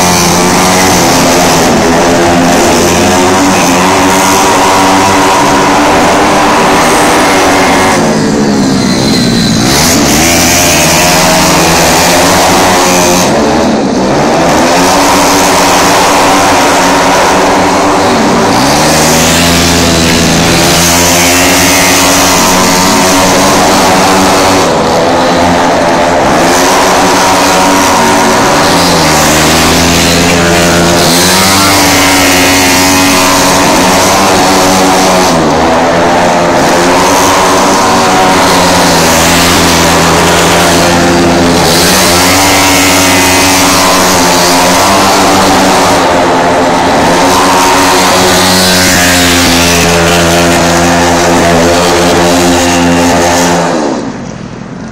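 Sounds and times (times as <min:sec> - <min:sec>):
motorcycle engines revving: 0:00.0 - 0:54.9.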